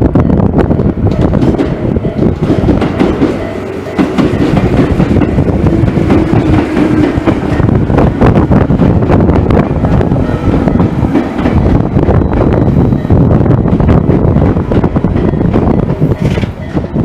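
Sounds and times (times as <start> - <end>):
train hum: 0.0 - 17.0
train wheels clattering over rails: 0.7 - 17.0.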